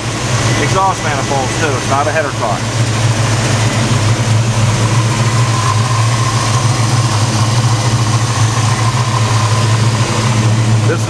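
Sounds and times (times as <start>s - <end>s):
car engine idling: 0.0s - 11.0s
faint steady whine: 0.0s - 11.0s.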